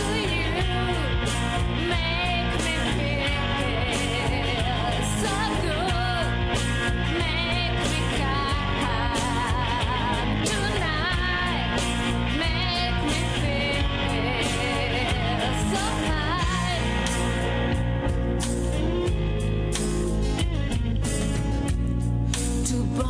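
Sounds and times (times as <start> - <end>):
rock song with singing and guitar: 0.0 - 23.0.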